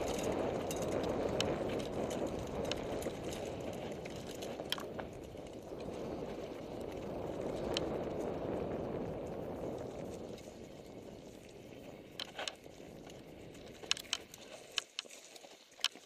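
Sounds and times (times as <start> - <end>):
bike tyres rumbling over ground: 0.0 - 14.6
bike clicks and rattles: 0.0 - 16.0.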